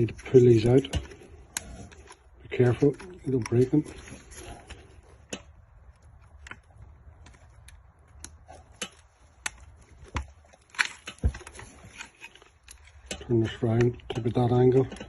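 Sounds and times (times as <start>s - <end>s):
plastic parts clicking and knocking: 0.0s - 15.0s.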